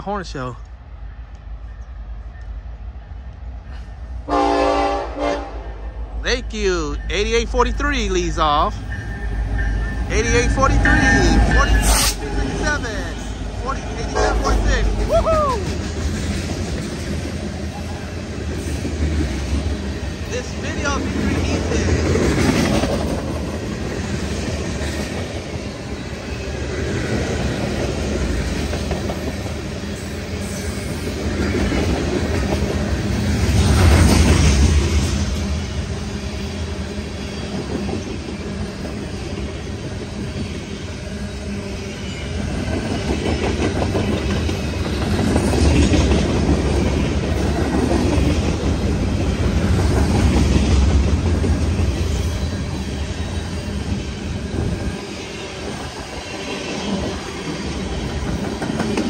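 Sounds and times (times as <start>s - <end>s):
steel train wheels on rail: 0.0s - 59.0s.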